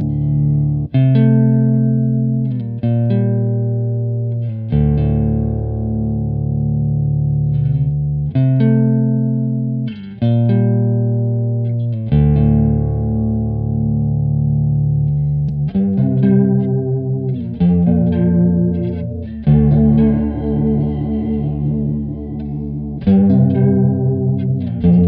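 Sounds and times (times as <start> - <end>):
electric guitar chords with chorus: 0.0 - 25.0.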